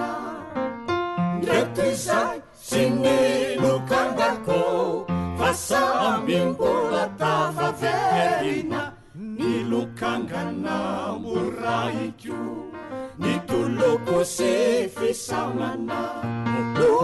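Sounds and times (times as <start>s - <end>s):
group singing in harmony: 0.0s - 17.0s.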